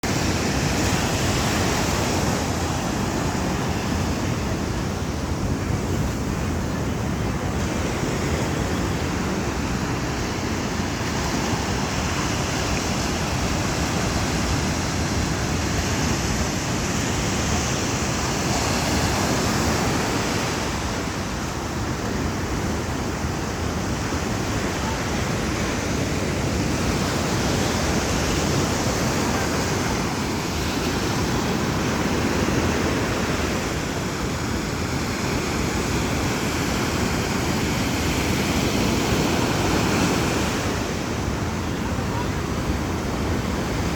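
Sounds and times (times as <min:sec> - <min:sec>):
sea surf washing onto beach: 0:00.0 - 0:43.9.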